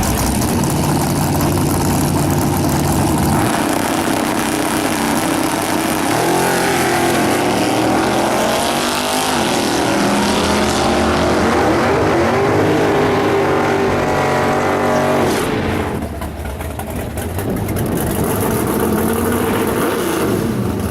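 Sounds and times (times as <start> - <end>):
race car engine at full throttle: 0.0 - 20.9.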